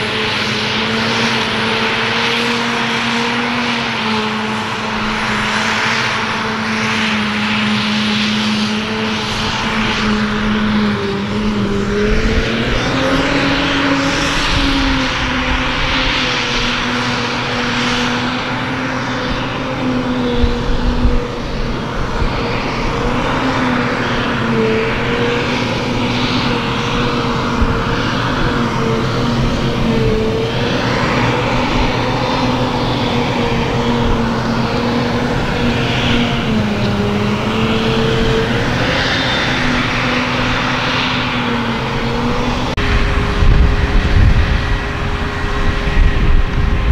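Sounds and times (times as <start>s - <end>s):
cutterhead whirring: 0.0s - 46.9s
heavy engine drone: 0.0s - 46.9s.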